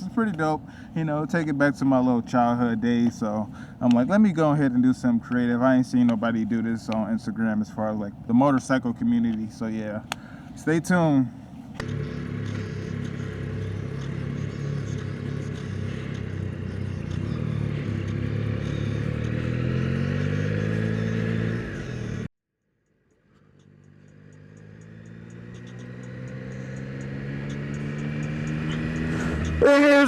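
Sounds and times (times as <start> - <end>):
motorcycle engine on the move: 0.0 - 22.3, 23.1 - 30.0.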